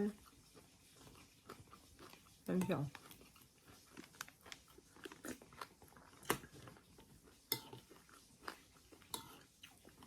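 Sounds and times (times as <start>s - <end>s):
person chewing crunchy cereal: 0.0s - 10.0s.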